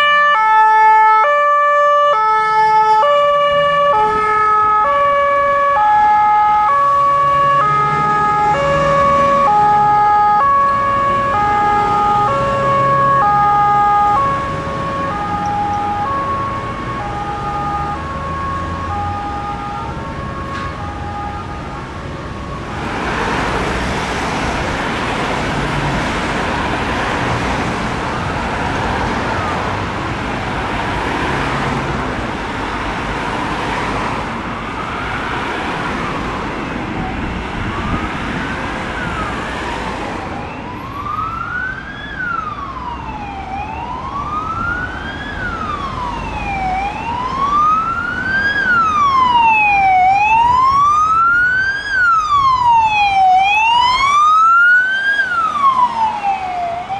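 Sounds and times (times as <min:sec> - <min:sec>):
siren wailing: 0:00.0 - 0:24.4, 0:27.8 - 0:30.0, 0:32.7 - 0:56.9
road traffic noise: 0:00.0 - 0:56.9.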